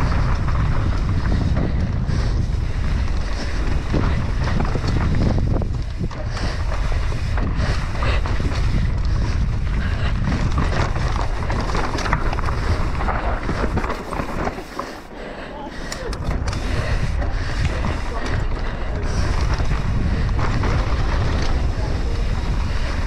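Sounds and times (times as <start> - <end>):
bike knocks and rattles: 0.0 - 14.8, 16.2 - 23.0
wind buffeting microphone: 0.0 - 14.8, 15.9 - 23.0
tyres rolling over dirt and rock: 0.0 - 15.1, 16.2 - 23.0.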